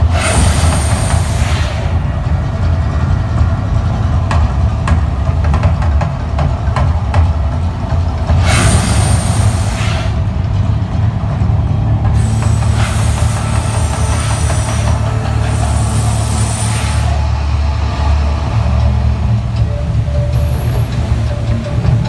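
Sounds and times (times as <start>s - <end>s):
deep steady rumble: 0.0s - 22.0s
loud hissing blasts: 0.0s - 22.0s.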